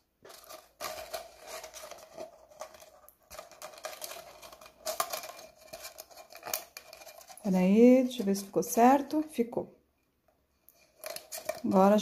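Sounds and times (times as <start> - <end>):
plastic clicks and crinkles: 0.2 - 9.2, 10.6 - 12.0.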